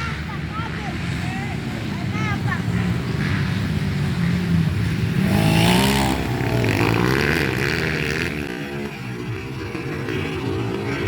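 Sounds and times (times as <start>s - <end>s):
trail bike engines revving: 0.0s - 11.0s.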